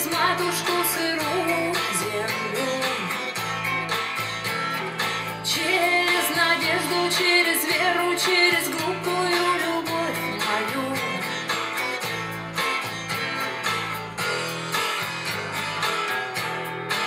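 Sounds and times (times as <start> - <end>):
song played through loudspeakers: 0.0 - 17.0.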